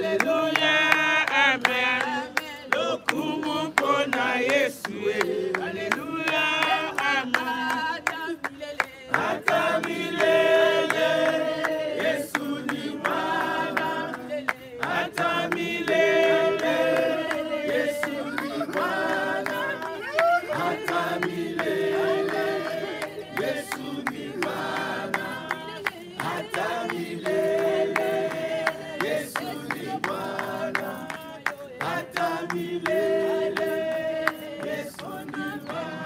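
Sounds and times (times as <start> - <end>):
group singing long wavering notes: 0.0 - 36.0.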